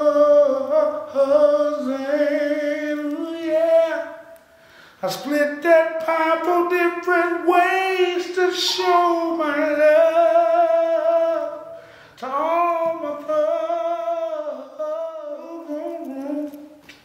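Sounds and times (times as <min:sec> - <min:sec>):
man singing unaccompanied: 0:00.0 - 0:04.4, 0:05.0 - 0:16.8.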